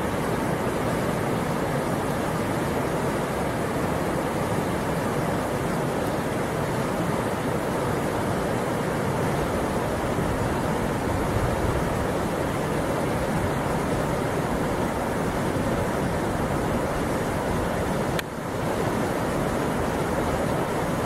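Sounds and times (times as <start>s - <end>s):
river rapids rushing: 0.0s - 21.0s.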